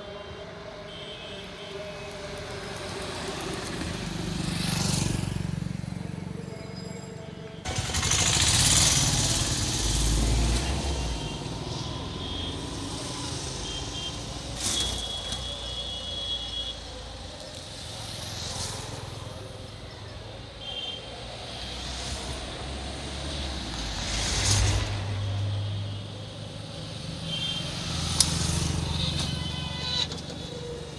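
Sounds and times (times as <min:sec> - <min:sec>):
vehicles driving by: 0:00.0 - 0:30.9.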